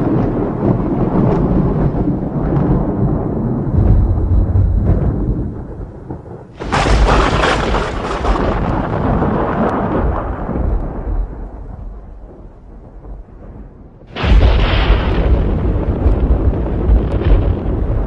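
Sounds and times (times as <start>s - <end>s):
sharp thunderclap: 0.0s - 18.0s
thunder rumbling: 0.0s - 18.0s.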